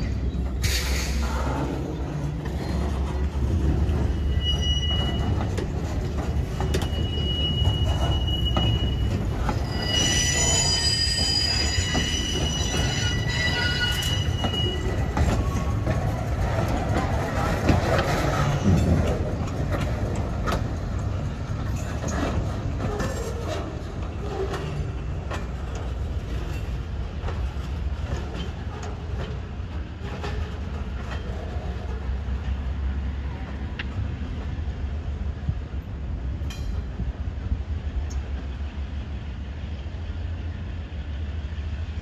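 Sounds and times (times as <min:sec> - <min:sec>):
wheels clanking over rail joints: 0:00.0 - 0:35.6
freight cars rumbling on track: 0:00.0 - 0:42.0.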